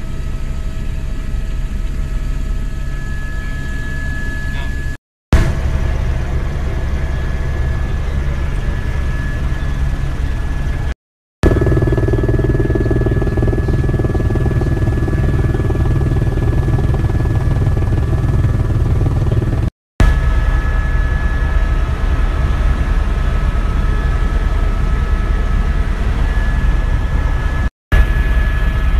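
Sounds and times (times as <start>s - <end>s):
helicopter rotor and engine drone: 0.0s - 28.9s.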